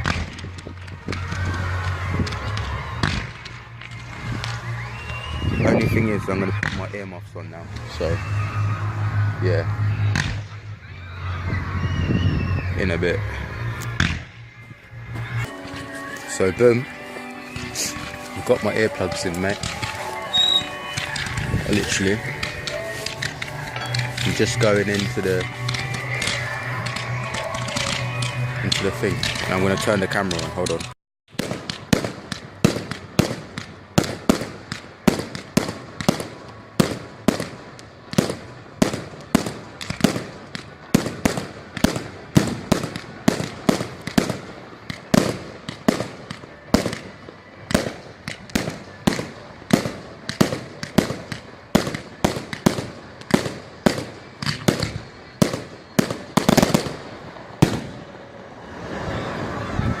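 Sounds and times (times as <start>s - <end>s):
fireworks bangs: 0.0s - 10.7s, 15.2s - 60.0s.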